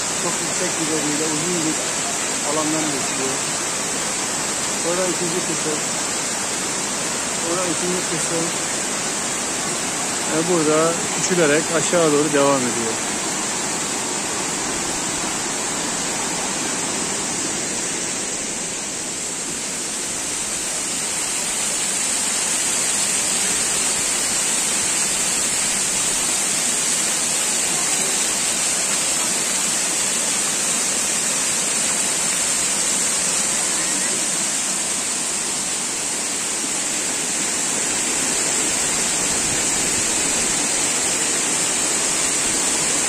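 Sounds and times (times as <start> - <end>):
waterfall rushing over rocks: 0.0 - 43.0.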